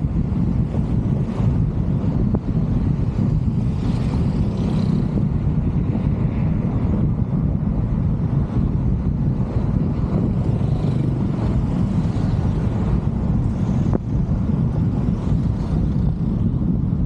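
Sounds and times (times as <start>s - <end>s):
car driving rumble: 0.0s - 17.0s
wind buffeting microphone: 0.0s - 17.0s.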